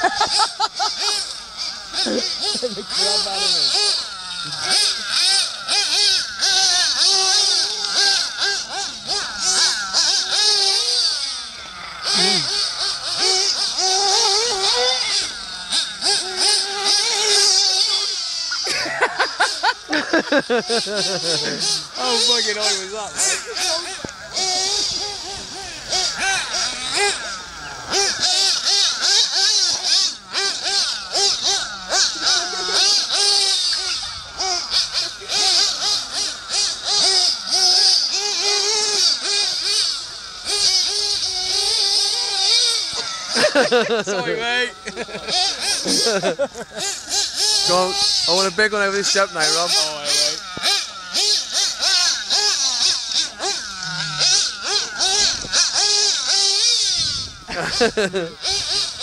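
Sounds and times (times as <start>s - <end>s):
rc car motor whining: 0.0s - 59.0s
steady hiss: 0.0s - 59.0s.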